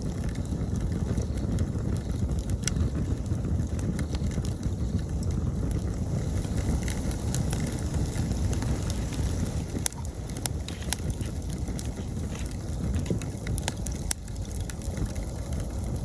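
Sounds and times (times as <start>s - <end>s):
campfire crackles and pops: 0.0s - 16.0s
fire low rush: 0.0s - 16.0s.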